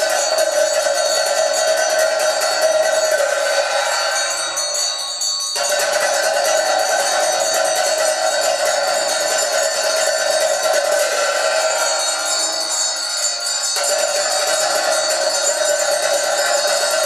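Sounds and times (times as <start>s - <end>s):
bells ringing rapidly: 0.0s - 17.0s.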